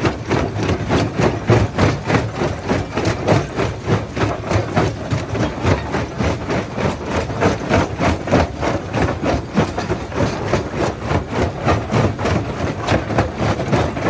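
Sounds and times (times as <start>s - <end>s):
machine low rumble: 0.0s - 14.0s.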